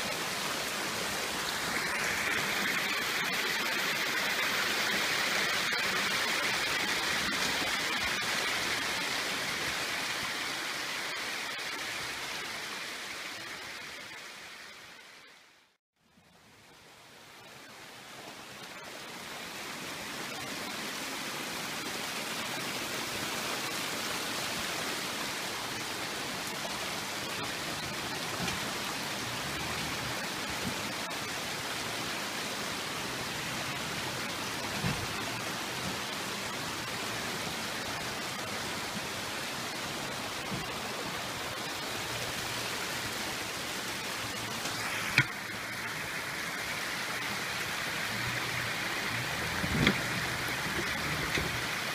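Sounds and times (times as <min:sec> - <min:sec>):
water running over rocks: 0:00.0 - 0:15.4, 0:16.4 - 0:51.9.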